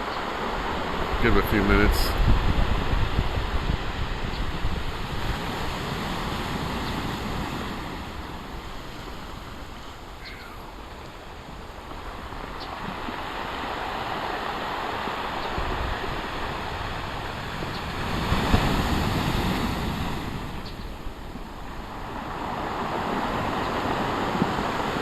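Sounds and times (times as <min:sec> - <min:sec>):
waves breaking: 0:00.0 - 0:25.0
wind buffeting microphone: 0:00.0 - 0:25.0.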